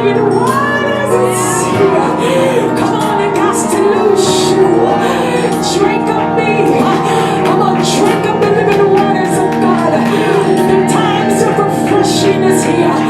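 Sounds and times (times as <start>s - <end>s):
held chords: 0.0s - 13.0s
person singing worship song: 0.0s - 13.0s.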